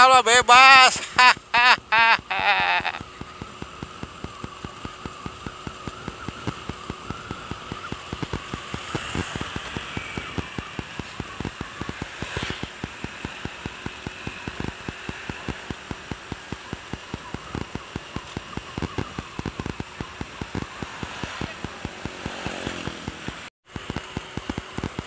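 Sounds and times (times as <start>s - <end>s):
motorcycle engine and road noise: 0.0s - 25.0s.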